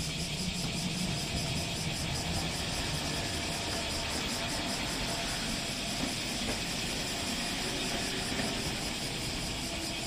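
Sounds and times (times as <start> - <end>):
cars running along road: 0.0 - 10.0
streetcar running: 0.0 - 10.0.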